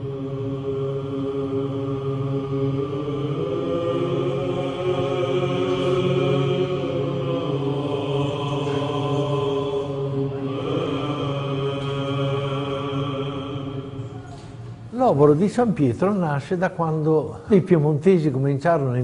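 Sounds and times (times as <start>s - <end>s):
low voices chanting: 0.0s - 15.2s
steady drone: 0.0s - 16.6s.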